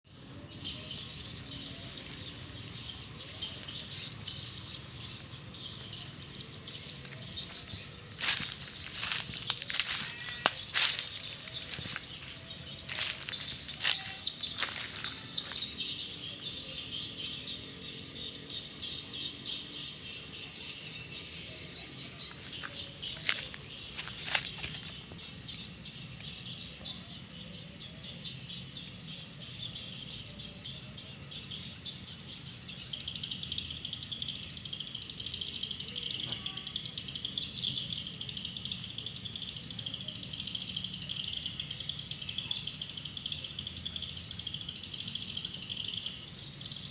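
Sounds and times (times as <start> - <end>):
flock of swiftlets twittering: 0.1 - 46.9.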